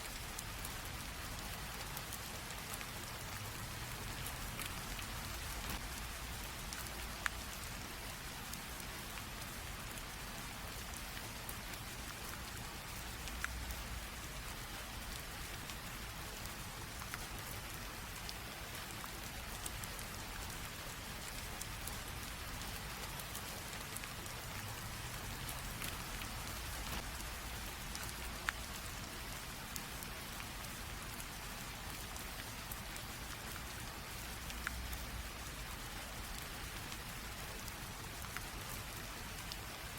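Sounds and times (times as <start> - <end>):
light rain drizzling: 0.0 - 39.9
raindrop ticking close by: 0.0 - 39.9.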